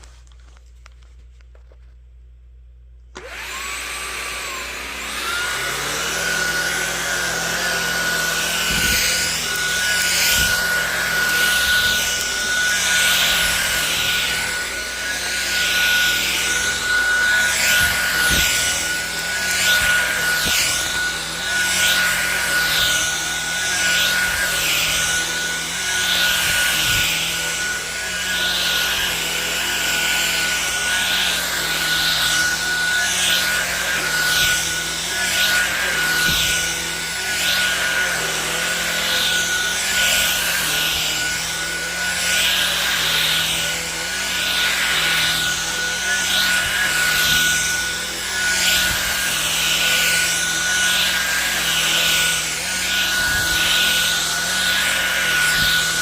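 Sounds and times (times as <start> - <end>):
vacuum motor whine: 3.1 - 56.0
vacuum rushing hiss on carpet: 3.2 - 56.0.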